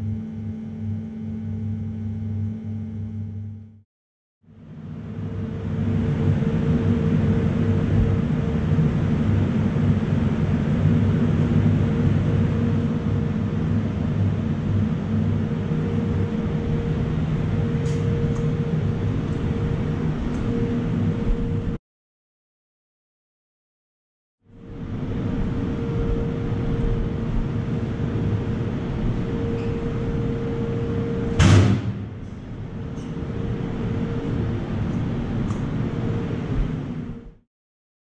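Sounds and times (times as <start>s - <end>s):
alternator electrical hum: 0.0s - 3.8s, 4.5s - 21.8s, 24.5s - 37.4s.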